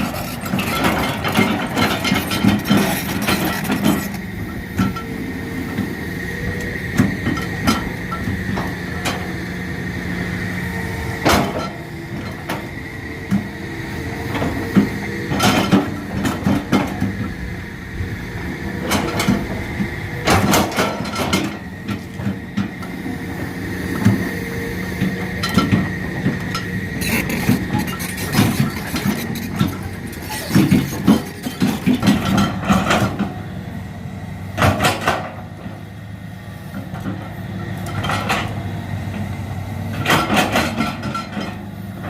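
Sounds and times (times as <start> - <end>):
excavator diesel engine whining: 0.0 - 42.0.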